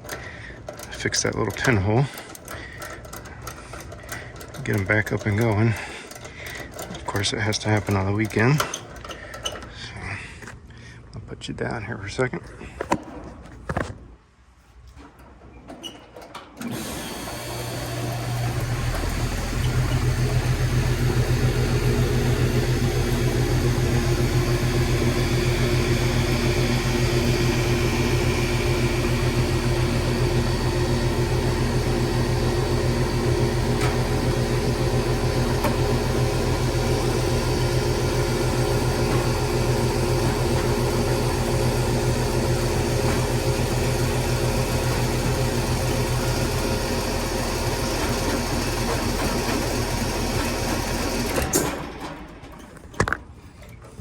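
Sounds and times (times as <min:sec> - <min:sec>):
air conditioner compressor and fan hum: 0:00.0 - 0:12.8, 0:16.2 - 0:52.6.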